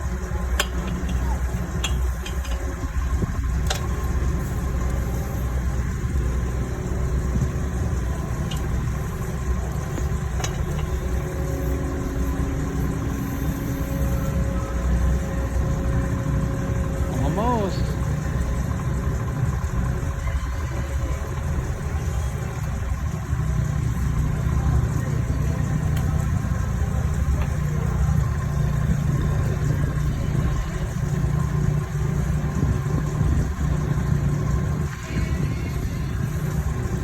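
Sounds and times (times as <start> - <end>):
excavator engine humming: 0.0 - 37.0.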